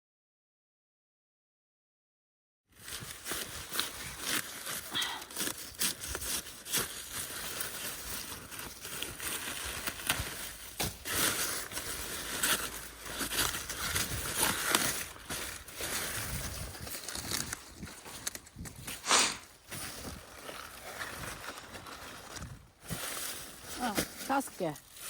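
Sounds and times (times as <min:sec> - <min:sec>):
leaves rustling and snapping: 0:02.8 - 0:25.0.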